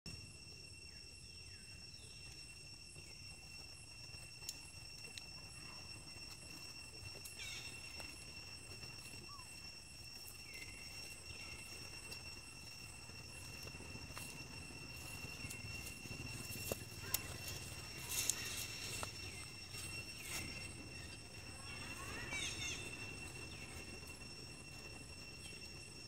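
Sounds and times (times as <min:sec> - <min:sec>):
high-pitched insect drone: 0:00.1 - 0:26.0.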